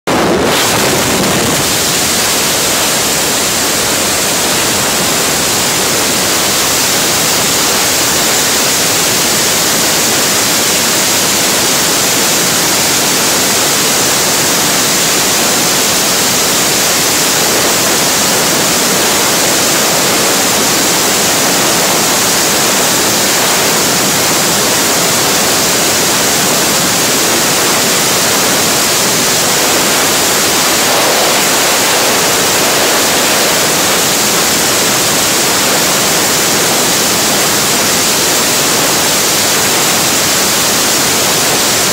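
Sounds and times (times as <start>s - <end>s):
wind roaring over microphone: 0.0s - 41.9s.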